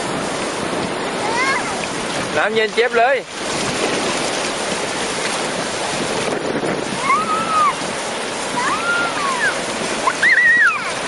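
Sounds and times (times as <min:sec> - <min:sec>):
small waves washing in shallows: 0:00.0 - 0:11.0
wind rushing on microphone: 0:00.0 - 0:11.0.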